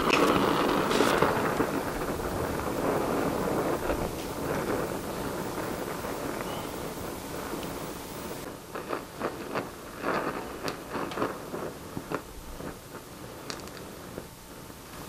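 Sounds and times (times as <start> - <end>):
small crackles and pops: 0.0 - 15.0
welding torch flame hissing: 0.0 - 15.0.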